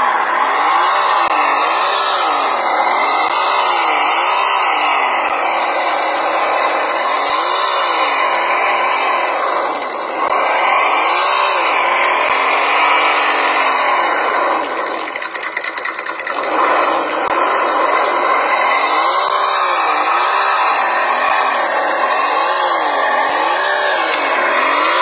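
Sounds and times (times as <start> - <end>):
simulated engine revving: 0.0 - 25.0.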